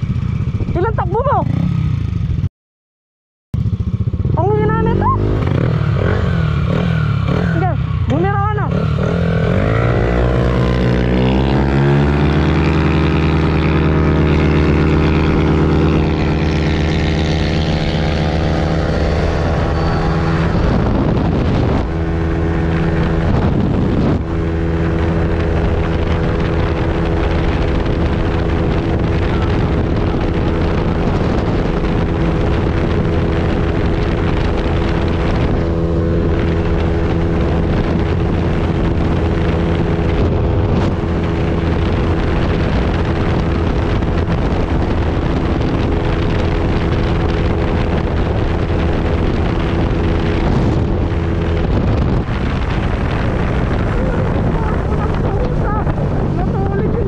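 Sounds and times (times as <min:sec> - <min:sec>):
scooter engine accelerating: 0:00.0 - 0:02.5, 0:03.6 - 0:57.0
wind rushing over microphone: 0:00.0 - 0:02.5, 0:03.6 - 0:57.0.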